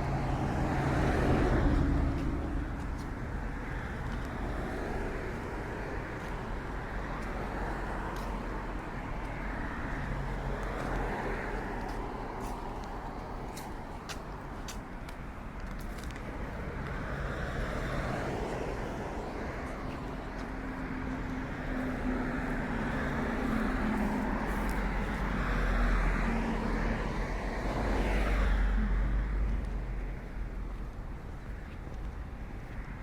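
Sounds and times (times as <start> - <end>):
low engine hum: 0.0 - 33.0
road traffic driving past: 0.0 - 33.0.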